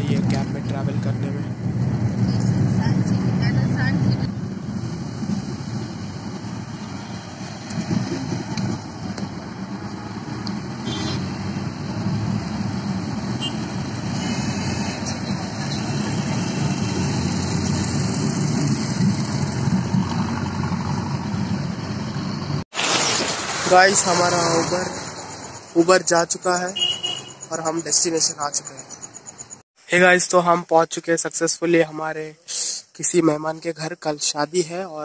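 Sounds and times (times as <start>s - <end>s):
car engine hum and road noise: 0.0s - 29.6s
surrounding traffic: 0.0s - 35.0s.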